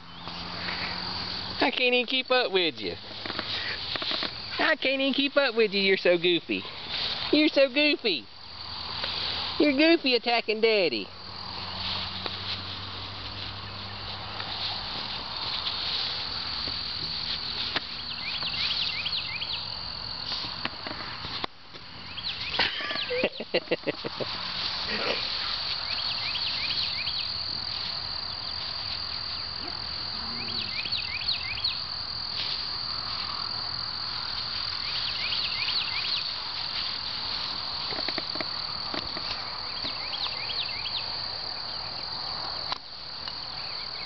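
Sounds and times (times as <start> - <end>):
insects trilling: 0.0 - 44.0.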